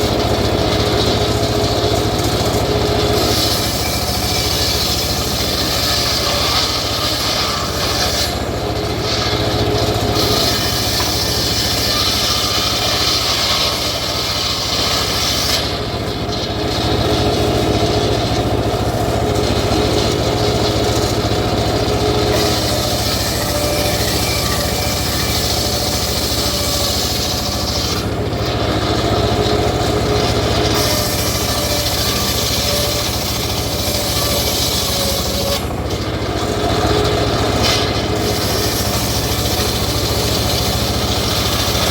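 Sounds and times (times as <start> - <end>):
circular saw cutting logs: 0.0 - 41.9.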